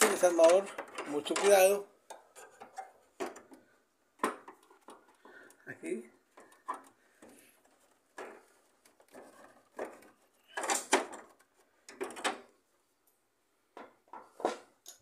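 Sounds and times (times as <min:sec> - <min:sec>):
plastic casing creaking and clicking: 0:00.0 - 0:12.6.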